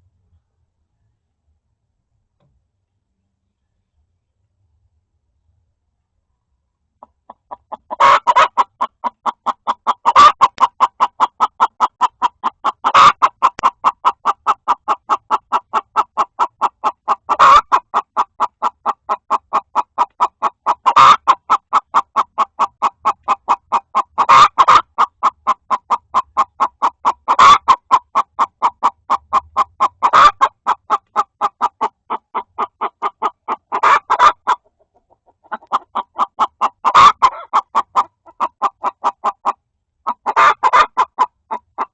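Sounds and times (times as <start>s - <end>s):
hen clucking: 7.0s - 41.9s.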